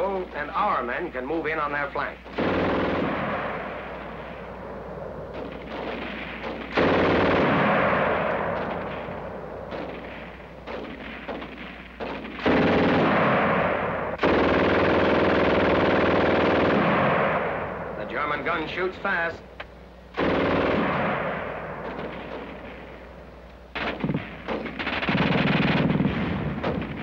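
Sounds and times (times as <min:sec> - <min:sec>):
machine-gun fire bursts: 0:01.6 - 0:04.5, 0:05.2 - 0:17.8, 0:20.1 - 0:23.1, 0:23.7 - 0:27.0.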